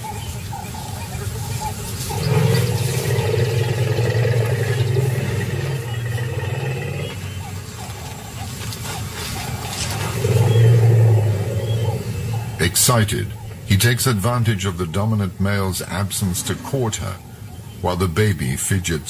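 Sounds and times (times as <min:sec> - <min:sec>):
elephant rumbling: 0:00.0 - 0:17.3.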